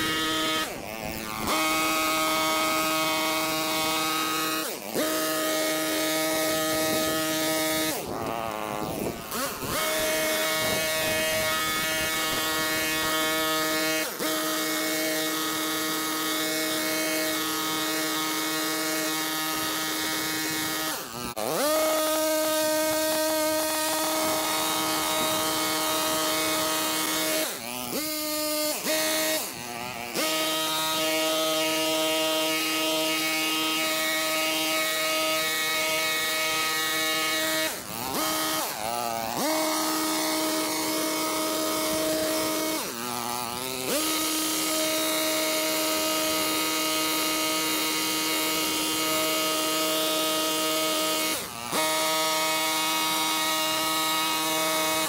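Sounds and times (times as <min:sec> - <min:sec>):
hedge trimmer engine revving: 0:00.0 - 0:55.0.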